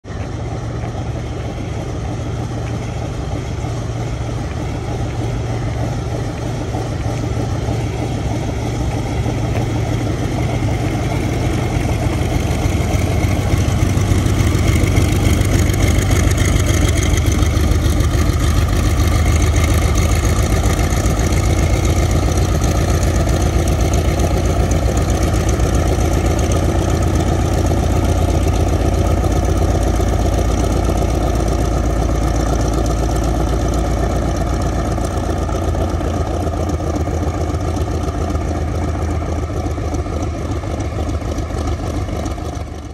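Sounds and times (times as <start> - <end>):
propeller aircraft engine taxiing: 0.0 - 42.9.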